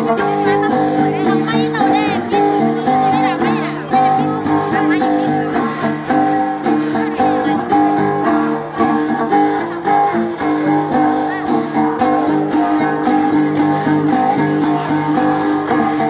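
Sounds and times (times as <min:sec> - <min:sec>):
folk dance music plucked strings: 0:00.0 - 0:16.0.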